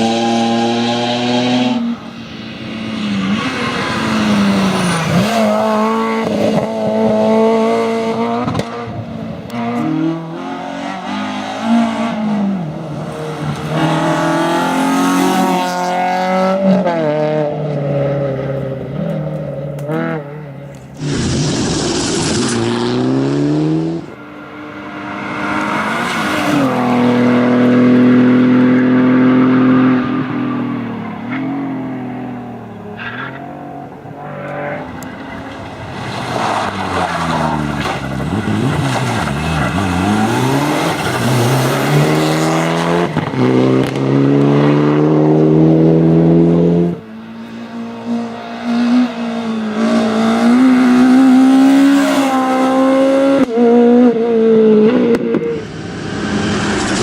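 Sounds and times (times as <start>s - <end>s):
tyre noise on road: 0.0s - 16.8s, 17.6s - 57.0s
rally car engines revving: 0.0s - 57.0s.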